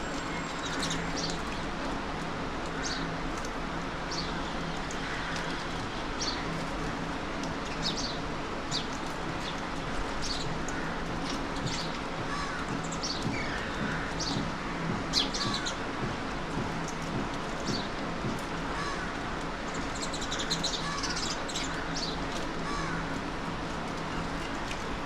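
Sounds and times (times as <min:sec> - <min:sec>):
birds calling: 0:00.0 - 0:02.1, 0:02.7 - 0:25.0
steady background hum: 0:00.0 - 0:25.0.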